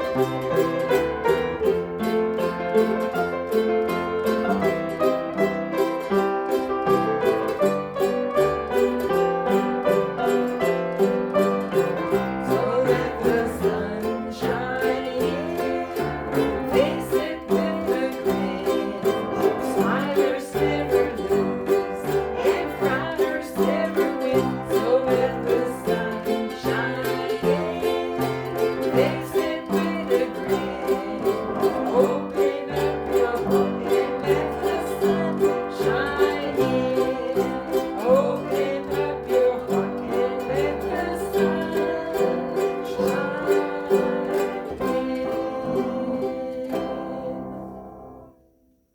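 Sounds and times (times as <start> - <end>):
plucked string instruments: 0.0 - 48.4.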